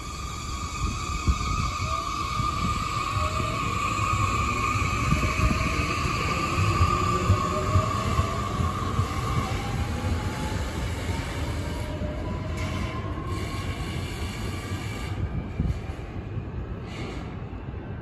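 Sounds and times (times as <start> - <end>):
wheel and rail rumble: 0.0 - 17.7.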